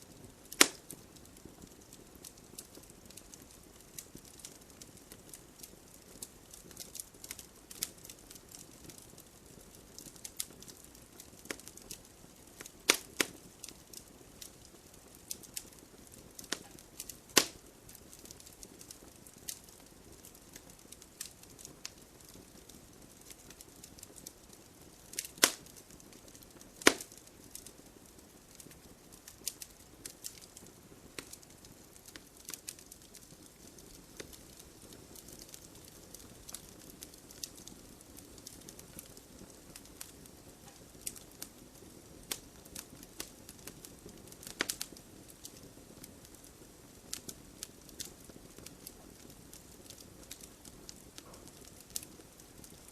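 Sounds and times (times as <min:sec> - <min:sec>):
faint hiss of fire: 0:00.0 - 0:52.9
wood fire crackling: 0:00.0 - 0:52.9.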